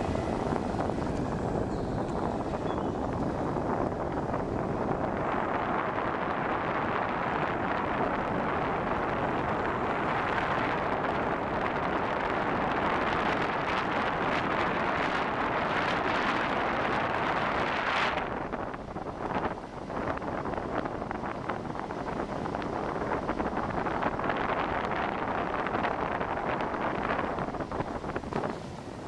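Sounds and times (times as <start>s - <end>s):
car tyre road roar: 0.0s - 29.0s
wind: 0.0s - 29.0s.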